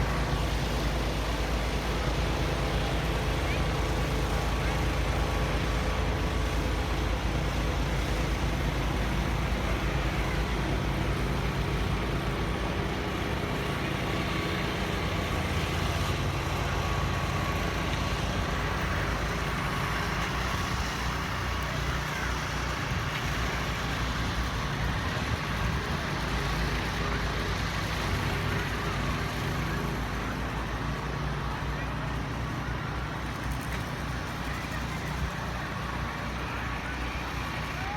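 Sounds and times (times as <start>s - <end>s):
city traffic hum: 0.0s - 37.9s.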